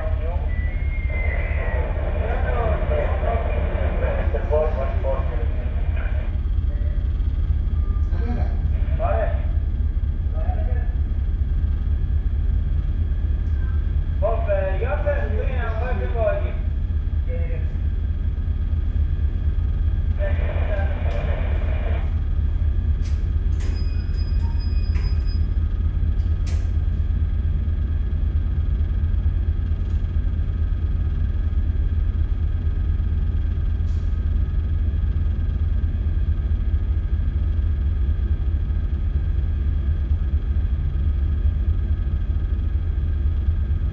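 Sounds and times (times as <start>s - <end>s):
ship engine rumble and hum: 0.0s - 43.9s.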